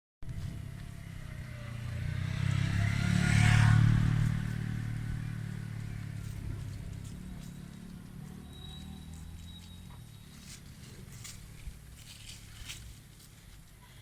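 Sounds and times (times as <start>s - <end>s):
vehicle engine passing by: 0.2s - 14.0s.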